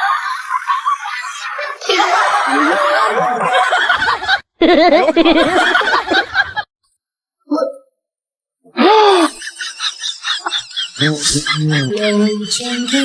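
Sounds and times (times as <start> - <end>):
loud laughter: 0.0 - 6.7, 8.9 - 13.0.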